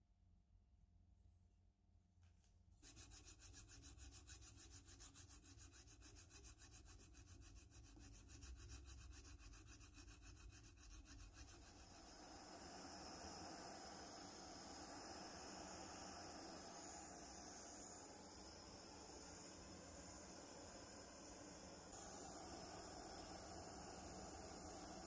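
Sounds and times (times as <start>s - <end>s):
steady hiss: 2.8s - 25.0s.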